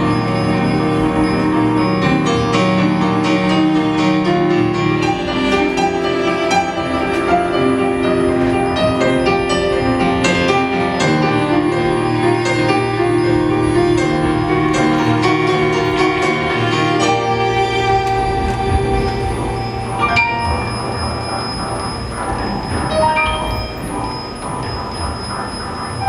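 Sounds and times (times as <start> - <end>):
instrumental piano music: 0.0 - 26.0.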